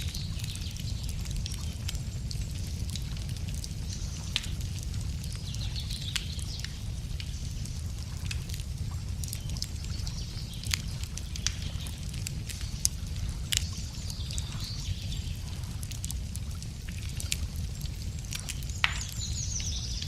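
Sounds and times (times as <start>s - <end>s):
faint songbirds singing: 0.0s - 16.1s, 17.0s - 20.0s
campfire crackling and popping: 0.0s - 20.0s
low fire rumble: 0.0s - 20.0s.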